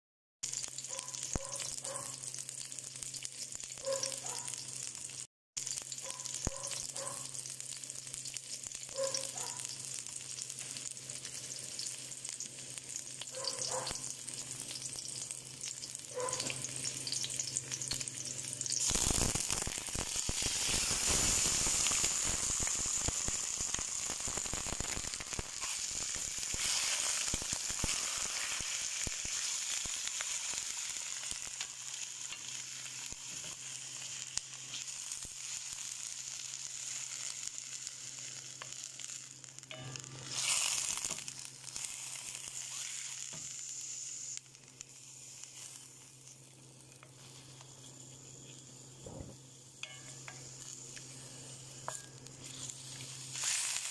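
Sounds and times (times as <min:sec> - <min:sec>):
chicken searing in pan: 0:00.4 - 0:53.9
onions sizzling in hot oil: 0:00.4 - 0:53.9.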